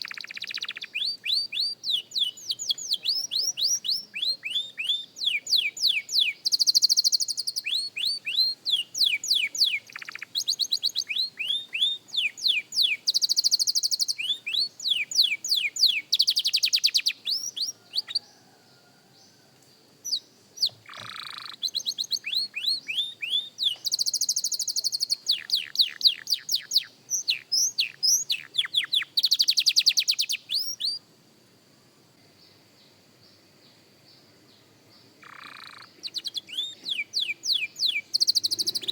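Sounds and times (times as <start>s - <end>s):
canary singing: 0.0s - 18.5s, 20.0s - 31.0s, 35.2s - 38.9s.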